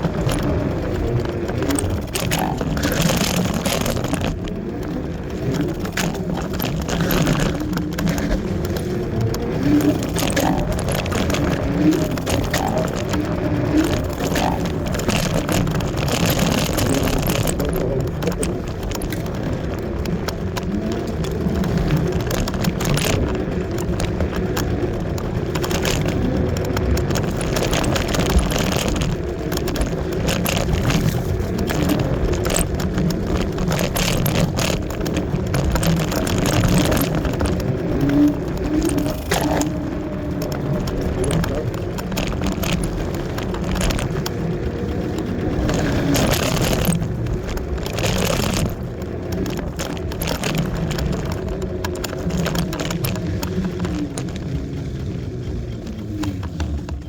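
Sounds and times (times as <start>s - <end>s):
rattles and knocks from bumps: 0.0s - 57.0s
wind and tyre rumble: 0.0s - 57.0s.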